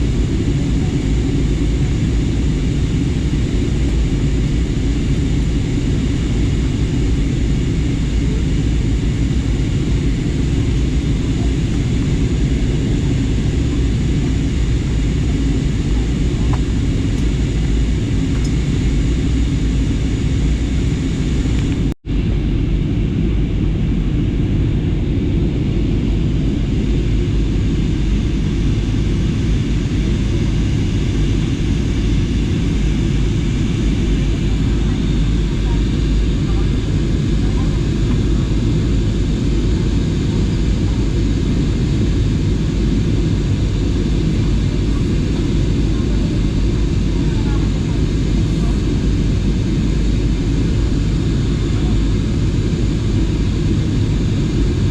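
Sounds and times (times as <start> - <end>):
airliner cabin engine noise: 0.0 - 54.9.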